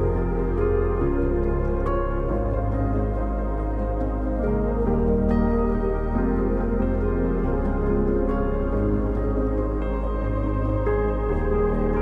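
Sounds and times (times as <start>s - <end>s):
ambient background music: 0.0s - 12.0s.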